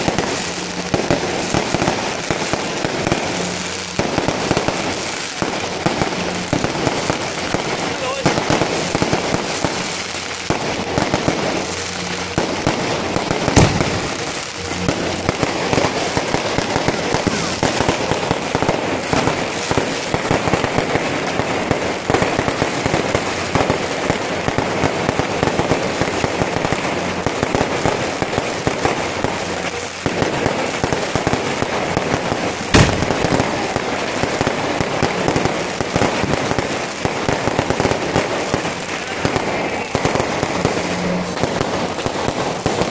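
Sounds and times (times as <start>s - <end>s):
fireworks booms: 0.0s - 42.9s
fireworks crackling: 0.0s - 42.9s.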